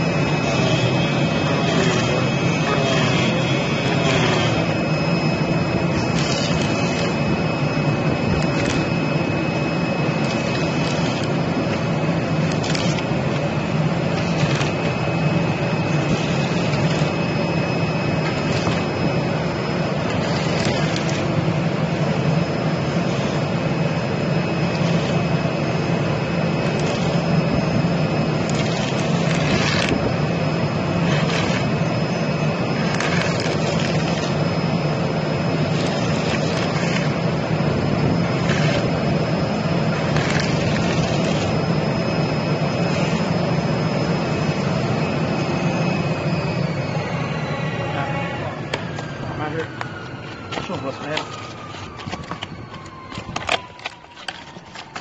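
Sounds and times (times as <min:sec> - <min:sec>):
cutting machine drone: 0:00.0 - 0:55.0
thin high whine: 0:00.0 - 0:55.0.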